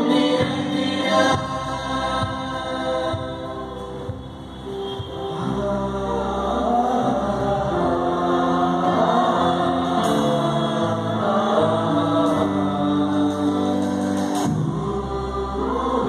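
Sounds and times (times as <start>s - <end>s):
live band accompaniment: 0.0s - 16.0s
mixed choir singing: 0.0s - 16.0s.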